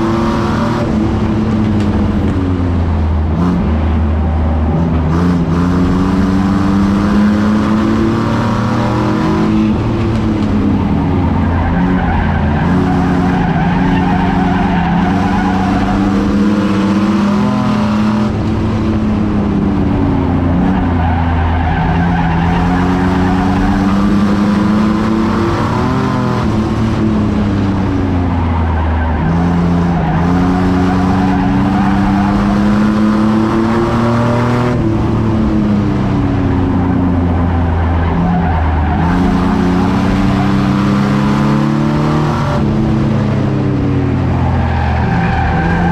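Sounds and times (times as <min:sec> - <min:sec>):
racing truck engine: 0:00.0 - 0:45.9
tire and road noise: 0:00.0 - 0:45.9.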